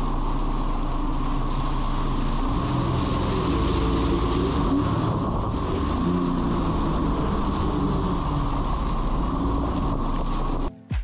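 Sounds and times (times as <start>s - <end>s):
jet ski engine drone: 0.0s - 10.7s.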